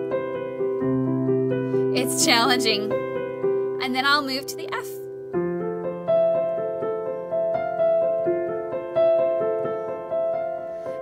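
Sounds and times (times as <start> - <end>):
slow piano arpeggio: 0.0 - 11.0.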